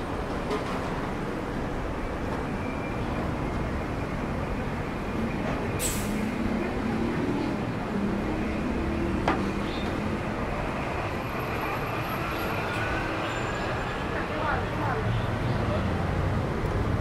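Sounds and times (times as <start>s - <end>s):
passing vehicles: 0.0s - 17.0s.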